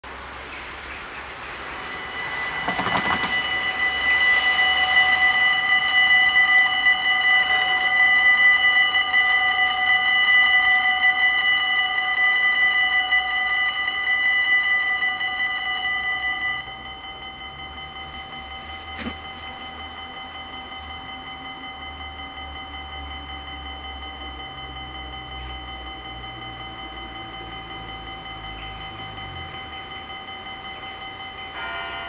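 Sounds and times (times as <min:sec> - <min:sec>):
level crossing warning bells: 0:00.0 - 0:32.0.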